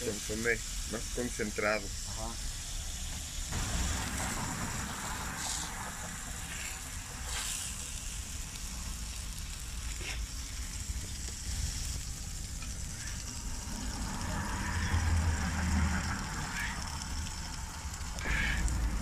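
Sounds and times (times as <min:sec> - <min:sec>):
quesadilla sizzling on a griddle: 0:00.0 - 0:19.0.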